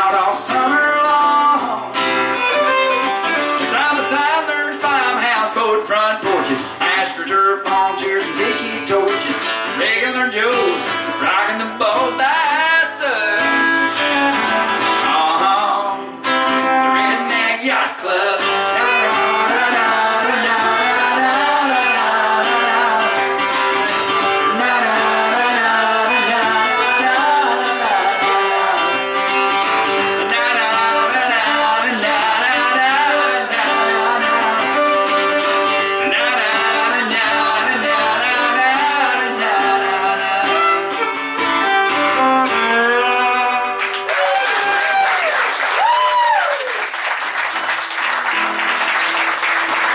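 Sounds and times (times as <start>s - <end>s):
person singing: 0.0s - 44.4s
acoustic guitar: 0.0s - 49.9s.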